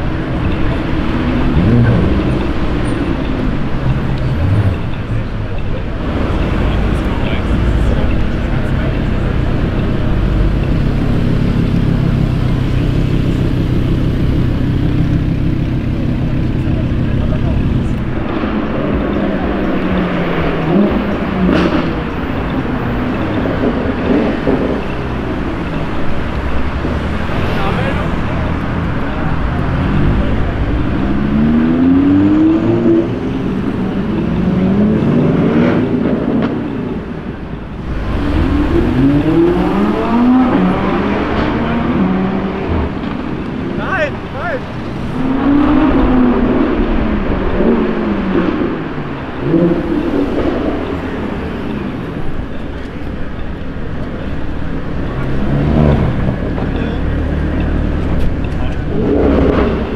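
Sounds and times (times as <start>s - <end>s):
car engine idling: 0.0s - 31.6s, 36.2s - 59.9s.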